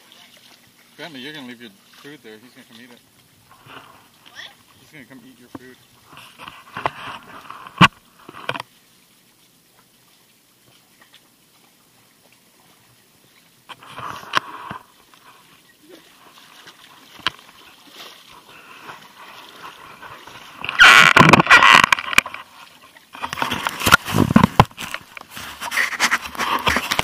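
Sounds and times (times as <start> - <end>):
water splashing in shallow water: 0.0 - 27.0.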